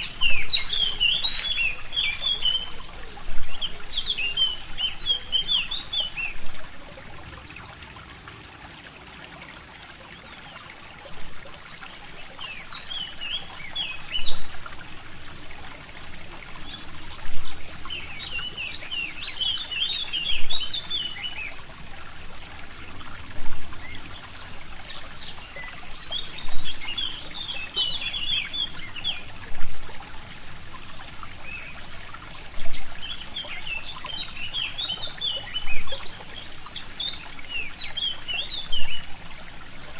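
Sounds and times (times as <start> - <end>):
songbirds chirping: 0.0 - 7.4, 9.9 - 39.9
brook trickling: 0.0 - 39.9.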